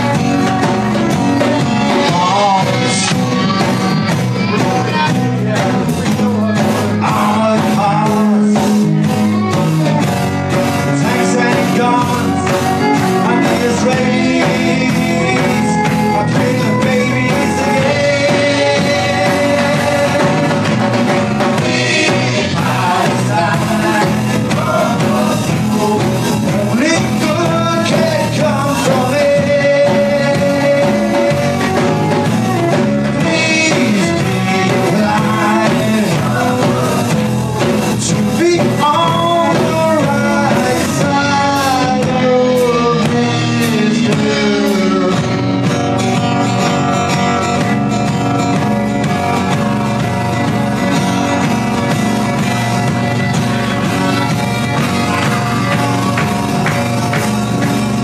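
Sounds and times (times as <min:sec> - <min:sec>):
drum kit: 0:00.0 - 0:58.0
electric bass: 0:00.0 - 0:58.0
strummed acoustic guitar: 0:00.0 - 0:58.0.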